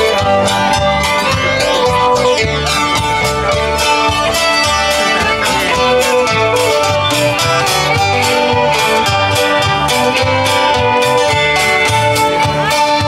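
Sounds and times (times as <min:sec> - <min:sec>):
bass line: 0:00.0 - 0:13.0
fiddle: 0:00.0 - 0:13.0
guitars: 0:00.0 - 0:13.0
steady drum beat: 0:00.0 - 0:13.0.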